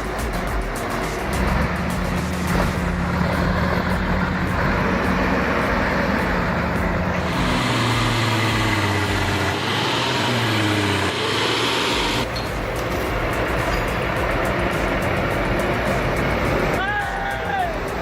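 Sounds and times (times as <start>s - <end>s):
truck diesel engine under load: 0.0s - 16.8s.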